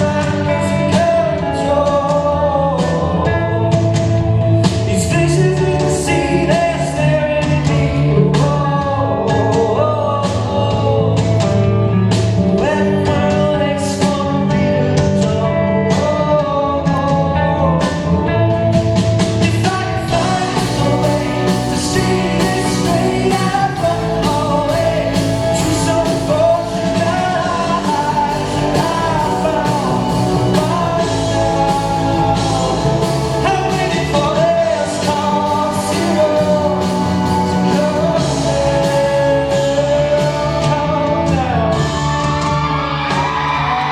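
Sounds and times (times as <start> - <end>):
lead vocal singing: 0.0 - 43.9
rock band playing live: 0.0 - 43.9
steady drum beat: 0.0 - 43.9.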